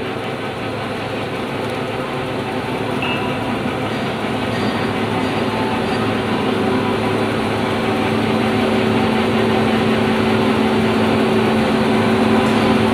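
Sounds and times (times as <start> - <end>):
printing machine whirring: 0.0 - 12.9.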